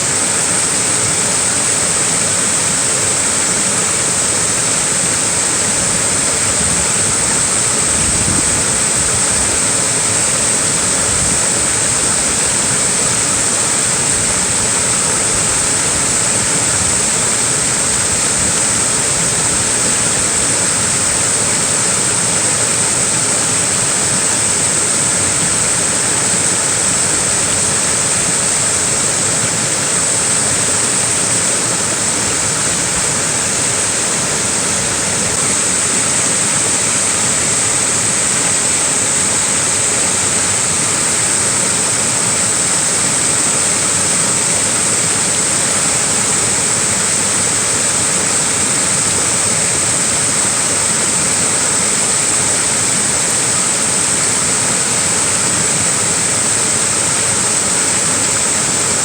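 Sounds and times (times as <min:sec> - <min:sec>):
small waterfall rushing: 0:00.0 - 0:59.0.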